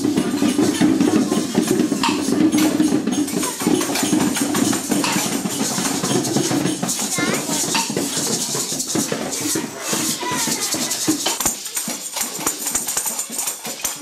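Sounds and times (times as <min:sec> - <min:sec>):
general hubbub: 0:00.0 - 0:14.0
hand percussion rattling: 0:00.0 - 0:14.0.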